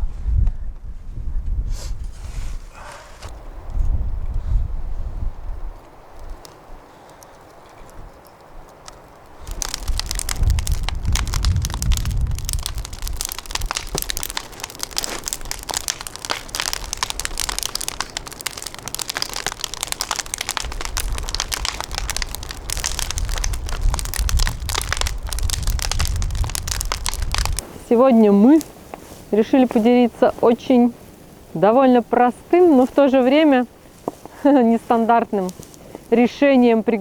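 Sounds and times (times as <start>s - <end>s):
wind rumbling on microphone: 0.0s - 37.0s
wood fire crackling: 3.2s - 37.0s.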